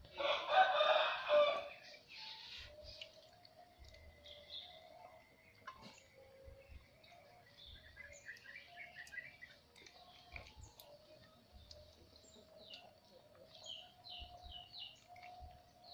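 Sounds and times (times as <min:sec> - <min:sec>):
faint small birds chirping: 0:01.6 - 0:15.9.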